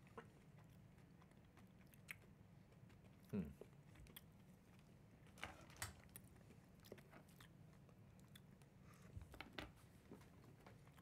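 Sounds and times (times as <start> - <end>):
chewing chocolate: 0.0 - 8.8.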